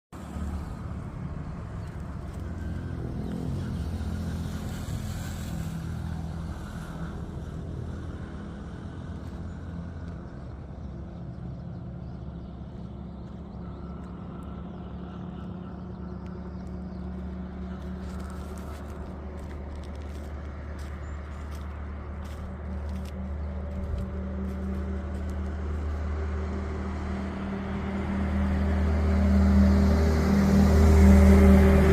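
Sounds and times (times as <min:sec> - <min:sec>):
highway traffic rumble: 0:00.0 - 0:31.9
vehicle passing loudly: 0:00.2 - 0:31.9.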